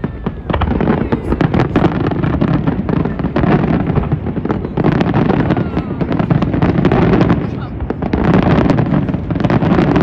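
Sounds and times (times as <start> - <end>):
deep rumble: 0.0 - 10.0
fireworks bangs and crackles: 0.0 - 10.0.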